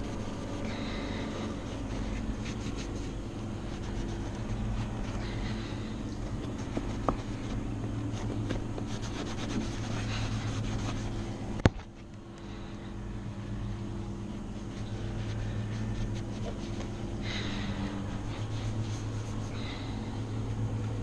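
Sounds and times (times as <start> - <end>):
rag rubbing on plastic: 0.0 - 11.2, 14.4 - 20.2
steady machine hum: 0.0 - 21.0.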